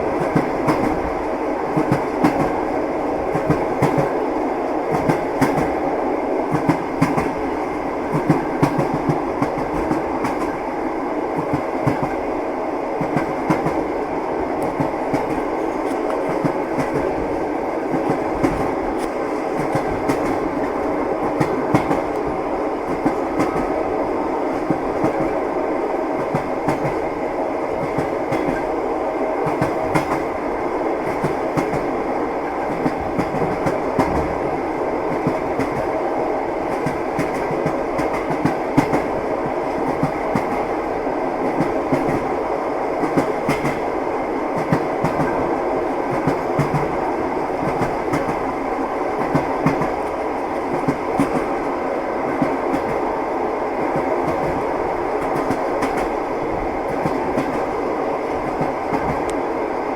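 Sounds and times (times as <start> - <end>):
train wheels clattering over rails: 0.1 - 4.2, 4.8 - 5.8, 6.5 - 10.7, 11.3 - 12.3, 13.0 - 23.8, 24.4 - 25.5, 26.1 - 28.8, 29.4 - 30.4, 31.0 - 36.0, 36.6 - 40.8, 41.4 - 42.4, 43.0 - 53.2, 53.8 - 59.3.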